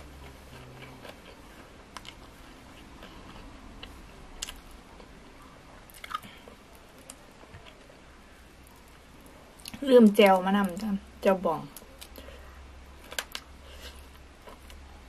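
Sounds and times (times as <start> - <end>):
close chewing with crisp crunches: 0.0 - 9.8, 11.7 - 15.0.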